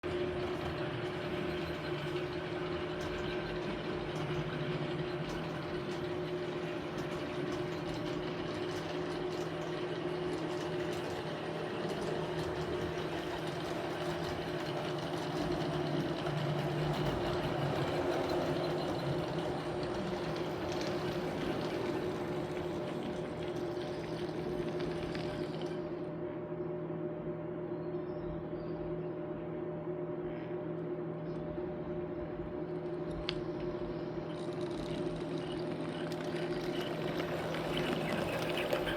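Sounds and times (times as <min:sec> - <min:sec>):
model train running on track: 0:00.0 - 0:25.9, 0:33.2 - 0:38.9.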